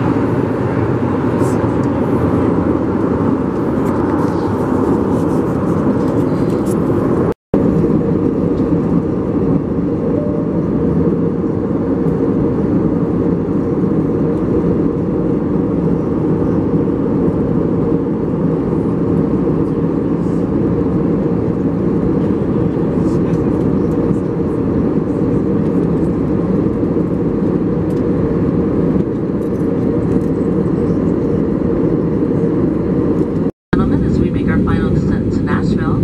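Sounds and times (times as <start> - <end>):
airplane cabin airflow and engine: 0.0 - 36.0.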